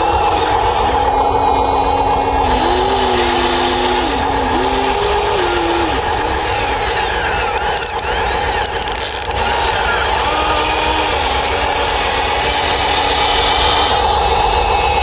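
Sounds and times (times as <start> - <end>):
electric motors and gears whining: 0.0 - 15.0
steady drone: 0.0 - 15.0.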